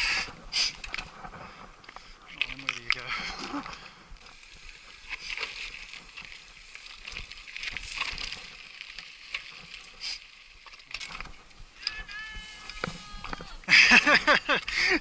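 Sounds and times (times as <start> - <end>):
bike clicking and rattling: 0.0 - 15.0
bike tyres on loose dirt: 0.0 - 15.0.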